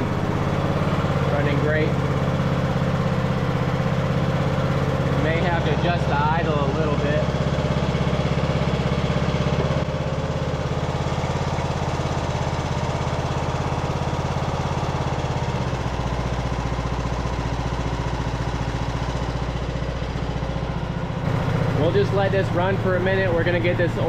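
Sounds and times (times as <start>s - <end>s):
riding mower engine running: 0.0s - 24.0s.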